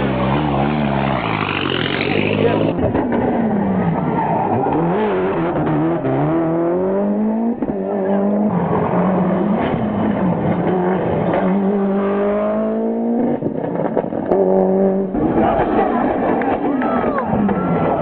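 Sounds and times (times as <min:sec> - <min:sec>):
rally car engine revving hard: 0:00.0 - 0:16.6.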